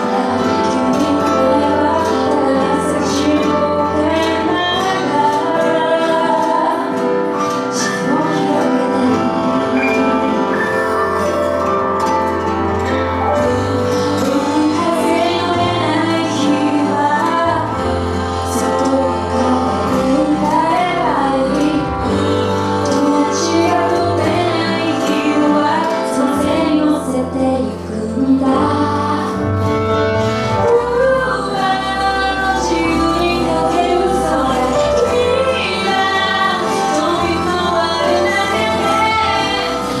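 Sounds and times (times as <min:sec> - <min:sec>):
woman singing: 0:00.0 - 0:11.8, 0:12.8 - 0:40.0
instrumental accompaniment: 0:00.0 - 0:40.0
steady bass line: 0:00.0 - 0:40.0.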